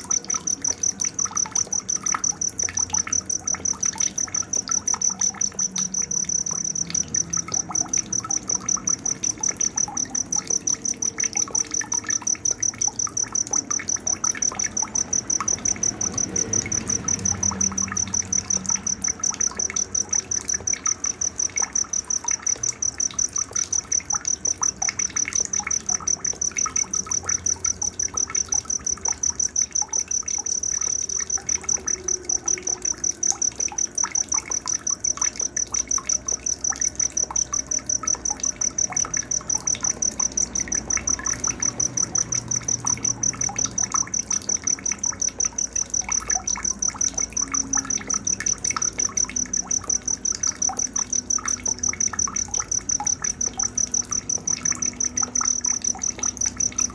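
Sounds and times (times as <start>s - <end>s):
cricket trilling: 0.0s - 56.9s
faint insect chirps: 0.0s - 56.9s.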